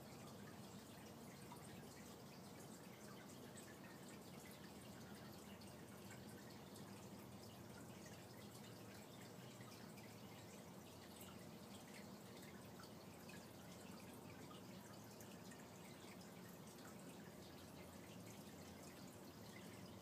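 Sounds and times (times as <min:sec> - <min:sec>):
aquarium water trickling and bubbling: 0:00.0 - 0:20.0
tiny drip-like ticks: 0:00.0 - 0:20.0.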